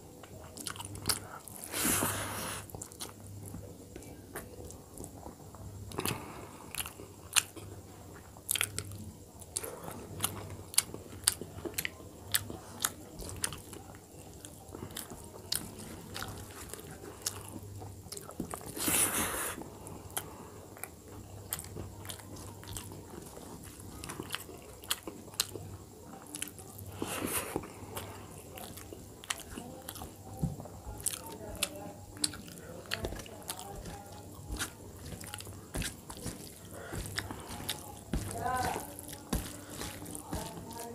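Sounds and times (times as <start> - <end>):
chewing and mouth smacking: 0.2 - 1.8, 2.6 - 18.9, 20.0 - 40.9.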